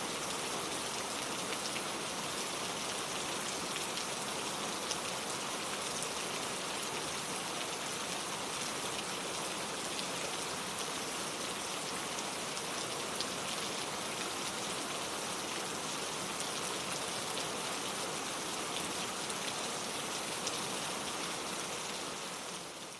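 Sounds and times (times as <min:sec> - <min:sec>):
rain pattering on leaves: 0:00.0 - 0:22.9.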